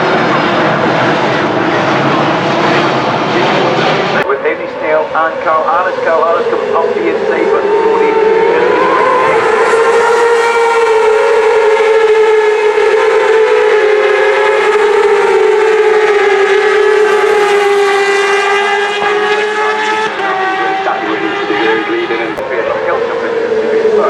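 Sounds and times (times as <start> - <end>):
high-revving motorcycle engines: 0.0 - 24.0.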